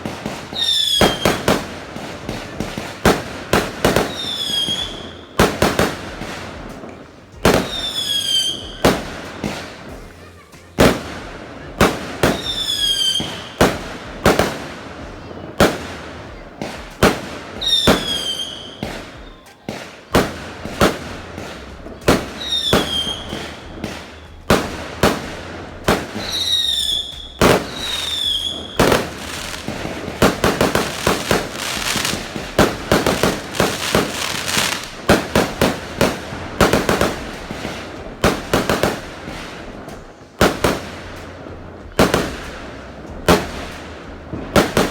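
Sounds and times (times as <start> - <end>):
firecrackers crackling pops: 0.0 - 44.9
fireworks bangs: 0.0 - 44.9.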